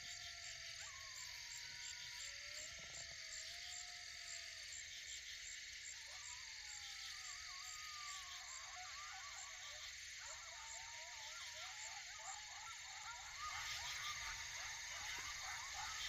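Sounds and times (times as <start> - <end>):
coyotes howling and yipping: 0.0 - 16.0.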